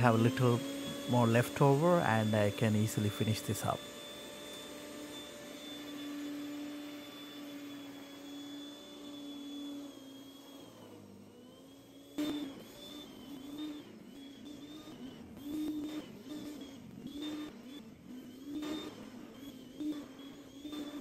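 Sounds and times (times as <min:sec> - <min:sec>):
snow thrower motor whining: 0:00.0 - 0:21.0.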